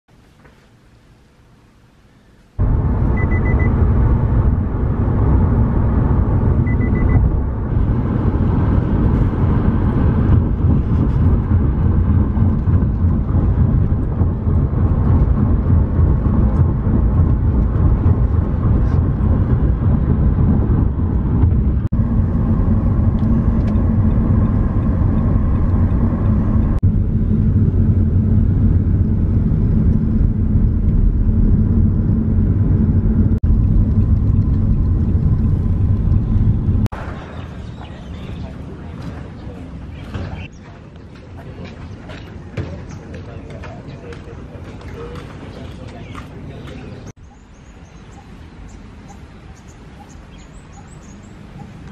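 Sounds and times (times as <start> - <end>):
car cabin road rumble: 2.6 - 51.9.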